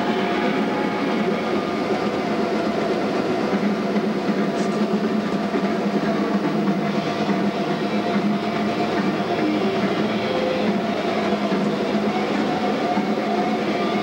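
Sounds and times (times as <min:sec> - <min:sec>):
steel tracks rattling: 0:00.0 - 0:14.0.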